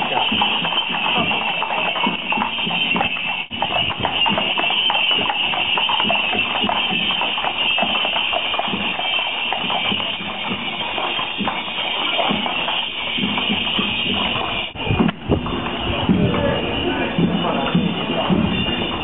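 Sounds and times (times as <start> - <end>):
horse hooves clopping on street: 0.0 - 19.0.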